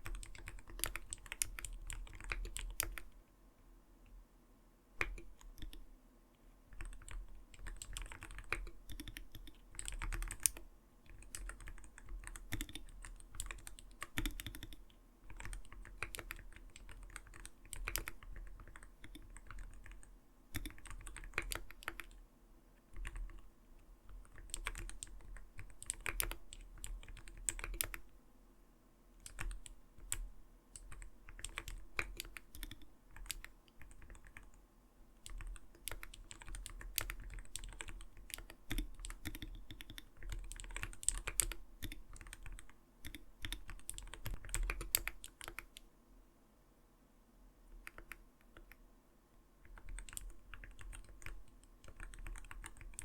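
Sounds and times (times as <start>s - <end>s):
mechanical keyboard typing: 0.0s - 3.1s, 5.0s - 5.8s, 6.7s - 22.2s, 22.9s - 28.1s, 29.2s - 34.6s, 35.2s - 45.9s, 47.8s - 48.8s, 49.6s - 53.0s.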